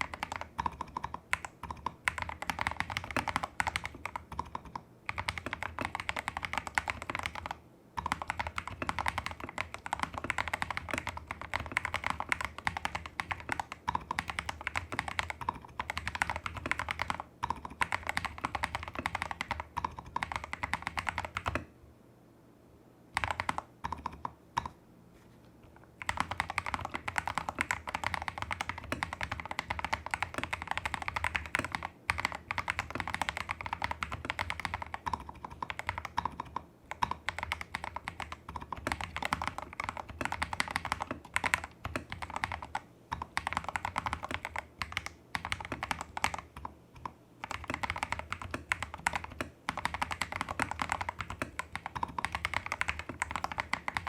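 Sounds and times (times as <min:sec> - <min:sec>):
mechanical keyboard typing: 0:00.0 - 0:21.7, 0:23.1 - 0:24.8, 0:26.0 - 0:54.0.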